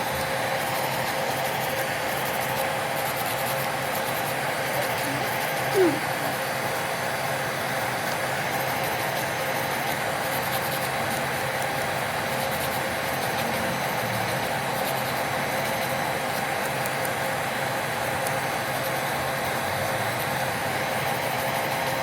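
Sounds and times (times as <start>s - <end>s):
electric nail drill whirring: 0.0s - 22.0s.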